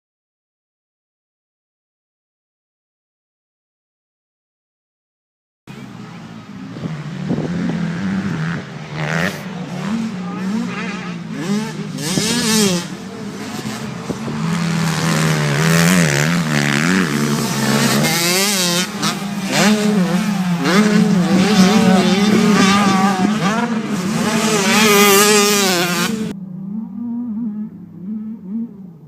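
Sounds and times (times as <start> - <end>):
racing engines revving: 5.7 - 29.0.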